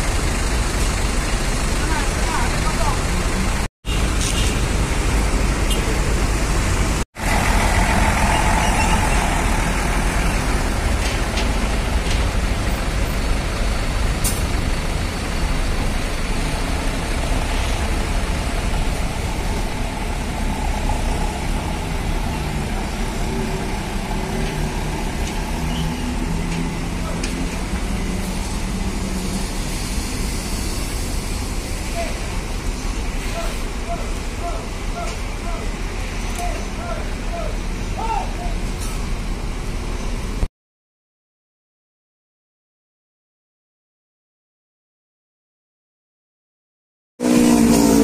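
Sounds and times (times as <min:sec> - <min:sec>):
bus diesel engine rumble: 0:00.0 - 0:40.5.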